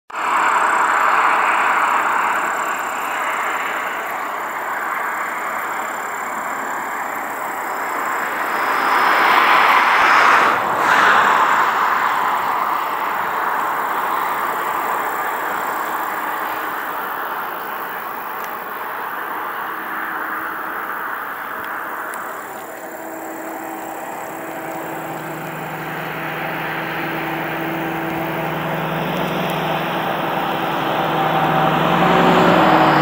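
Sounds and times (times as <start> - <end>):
car tyres rushing on asphalt: 0.1 - 33.0
car passing: 0.2 - 33.0.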